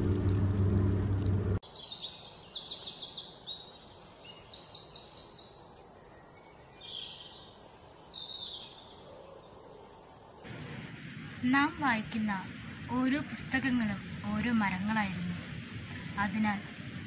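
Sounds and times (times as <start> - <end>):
songbird chirping: 1.6 - 17.0.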